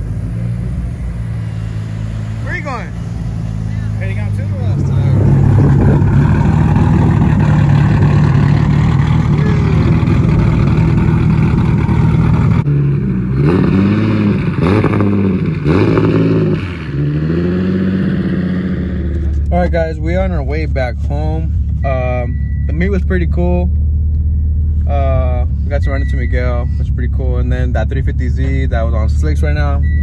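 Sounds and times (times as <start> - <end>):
car engine running and revving: 0.0 - 30.0.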